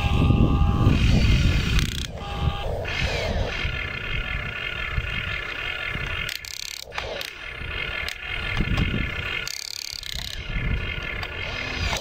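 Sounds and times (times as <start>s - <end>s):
toy excavator motors whining: 0.0s - 12.0s.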